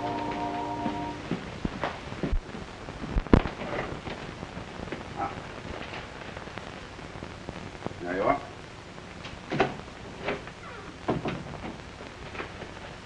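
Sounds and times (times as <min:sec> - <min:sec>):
film soundtrack hiss and crackle: 0:00.0 - 0:13.0.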